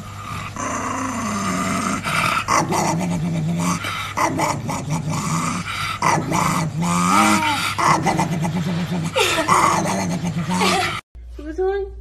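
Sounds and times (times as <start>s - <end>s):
small dog growling: 0.2s - 11.0s.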